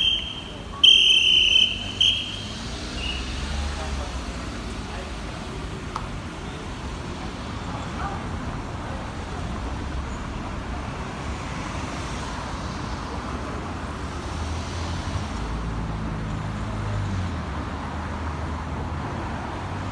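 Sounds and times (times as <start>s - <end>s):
nearby vehicle engine hum: 0.0s - 17.3s
cars moving: 0.0s - 19.9s.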